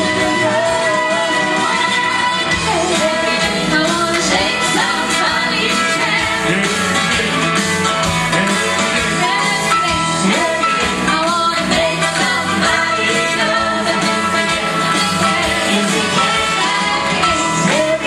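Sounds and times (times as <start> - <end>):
vocal group singing gospel: 0.0 - 7.6, 8.2 - 18.0
instrumental accompaniment: 0.0 - 18.0.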